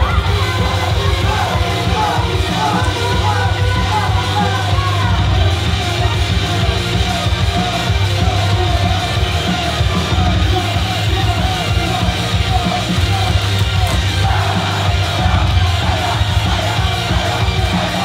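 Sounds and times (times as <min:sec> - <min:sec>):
live rock pop song: 0:00.0 - 0:18.0.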